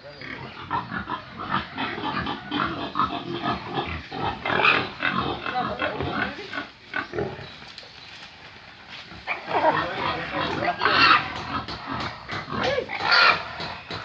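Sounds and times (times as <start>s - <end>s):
pigs grunting: 0.0s - 7.6s, 9.0s - 14.0s.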